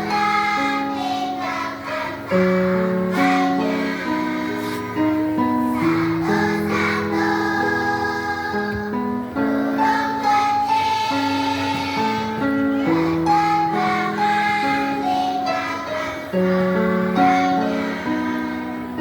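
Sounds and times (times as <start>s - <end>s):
children's choir singing: 0.0s - 19.0s
instrumental accompaniment: 0.0s - 19.0s.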